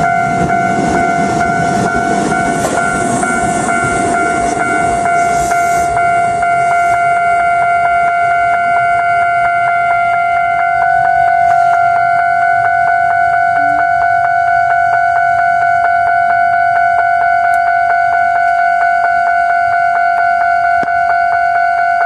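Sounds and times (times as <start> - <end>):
level crossing alarm ringing: 0.0 - 22.0
train low rumble: 0.0 - 22.0.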